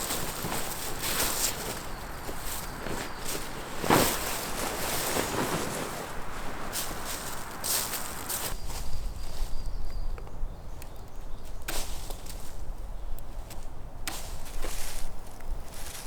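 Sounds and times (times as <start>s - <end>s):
footsteps on forest floor: 0.0s - 10.4s, 13.3s - 16.0s.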